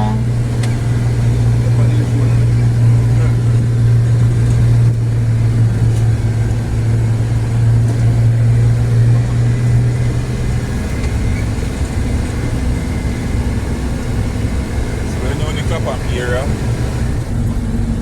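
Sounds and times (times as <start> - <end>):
car engine and road drone: 0.0 - 18.0.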